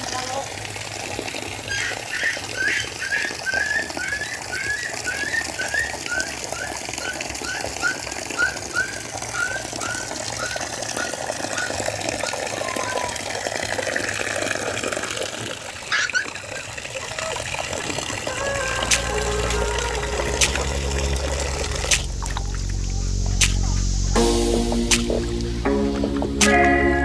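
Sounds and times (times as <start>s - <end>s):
water sloshing in a basin: 0.0s - 23.4s.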